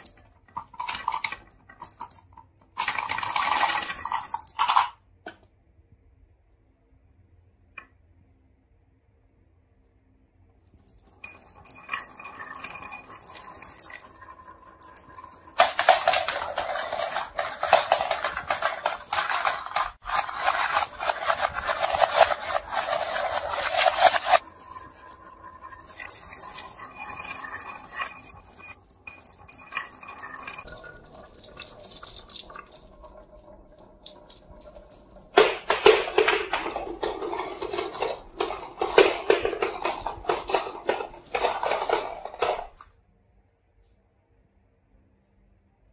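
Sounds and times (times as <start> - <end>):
marbles rolling down wooden run: 0.0 - 5.0, 10.7 - 42.8.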